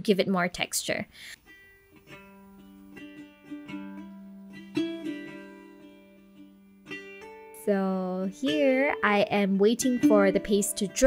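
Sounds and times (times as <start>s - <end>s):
plucked string instrument music: 1.4s - 11.0s.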